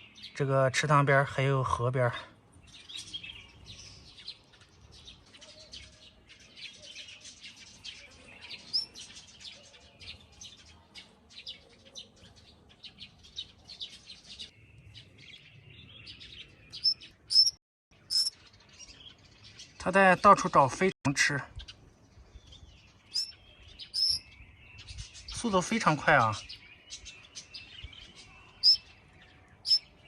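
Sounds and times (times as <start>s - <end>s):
small bird chirping: 2.6s - 19.9s, 21.6s - 30.0s.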